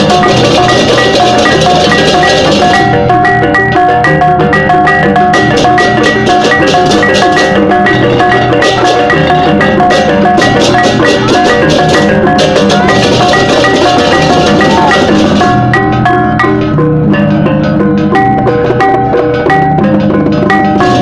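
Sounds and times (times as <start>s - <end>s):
drums: 0.0s - 21.0s
gong-chimes striking fast notes: 0.0s - 21.0s.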